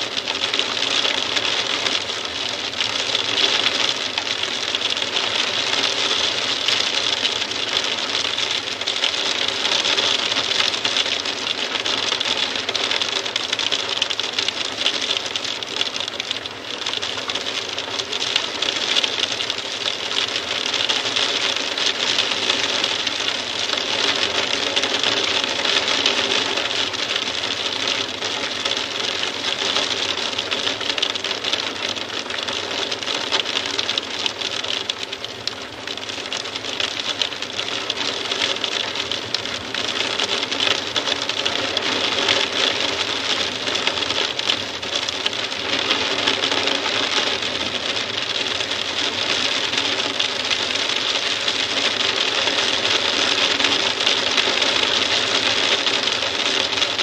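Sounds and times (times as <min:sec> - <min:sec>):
hail clattering on window glass: 0:00.1 - 0:57.0.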